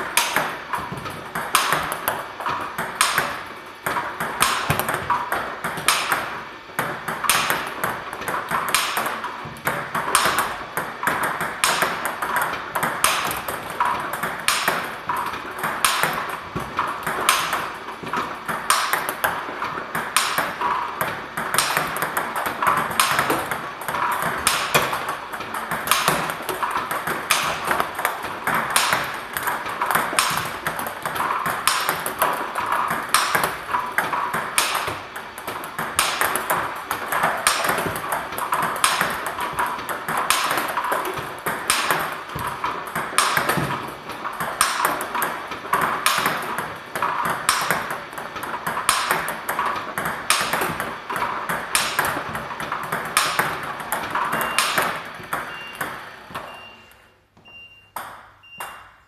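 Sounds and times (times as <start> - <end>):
table tennis balls clicking: 0.0 - 59.0.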